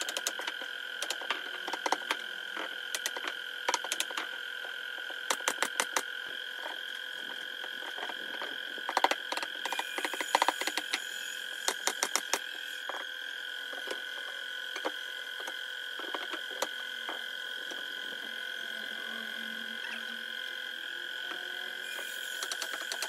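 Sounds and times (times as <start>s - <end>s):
high-pitched hum: 0.0s - 23.0s.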